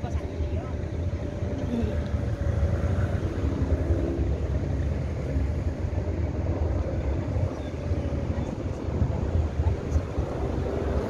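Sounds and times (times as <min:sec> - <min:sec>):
harbour background rumble: 0:00.0 - 0:11.0.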